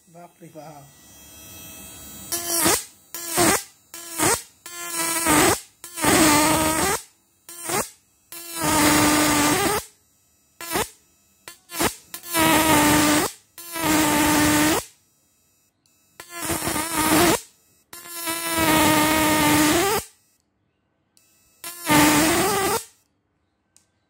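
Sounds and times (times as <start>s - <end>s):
electric arc buzzing: 0.0s - 20.4s, 21.2s - 23.0s.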